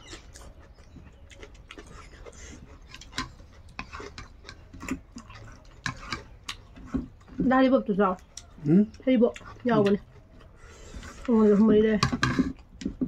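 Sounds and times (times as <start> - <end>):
wet chewing and lip-smacking: 0.0 - 7.4, 8.0 - 11.4.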